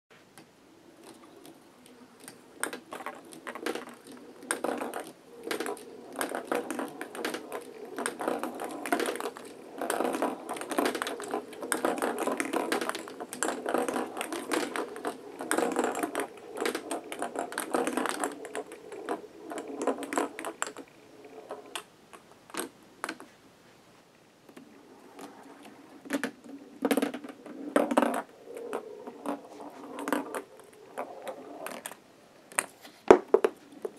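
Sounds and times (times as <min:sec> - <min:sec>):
balls rolling down plastic track: 0:00.7 - 0:23.3, 0:24.4 - 0:33.9.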